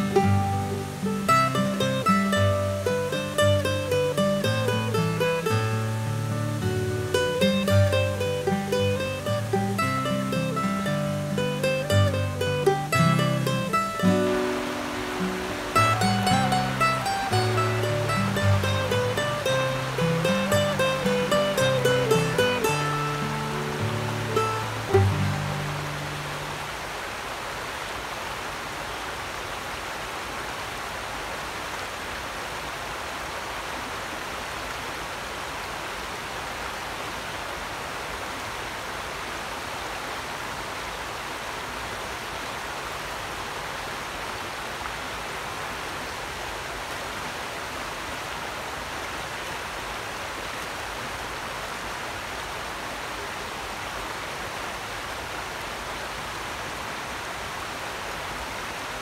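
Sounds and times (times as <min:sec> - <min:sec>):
creek rushing over stones: 0:00.0 - 0:59.0.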